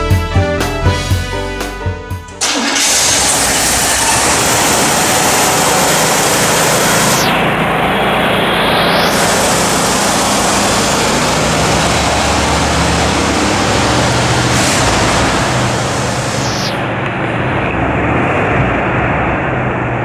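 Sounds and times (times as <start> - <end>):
car engine hum: 2.4 - 20.0
road and wind noise: 2.5 - 20.0.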